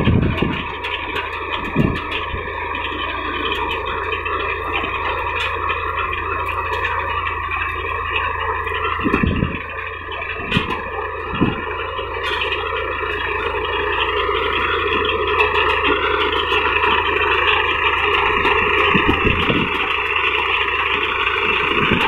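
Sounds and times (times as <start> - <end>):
tractor engine under load: 0.0 - 22.0.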